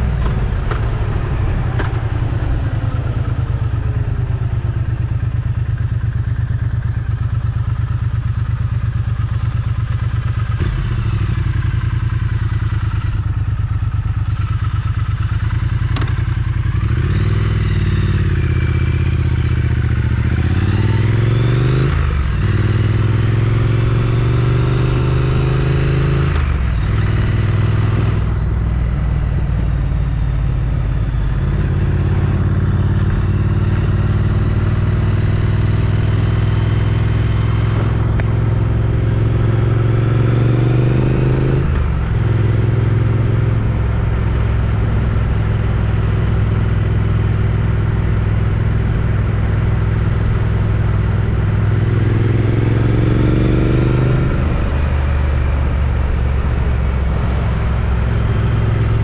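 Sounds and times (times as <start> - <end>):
motorcycle engine while riding: 0.0 - 59.0.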